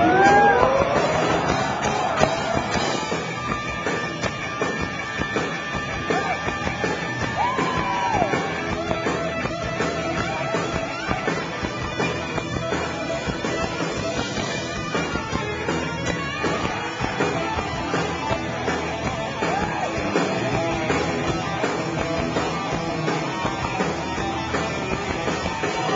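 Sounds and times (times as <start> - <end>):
distorted lead electric guitar: 0.0 - 25.9
live hard rock band: 0.0 - 25.9.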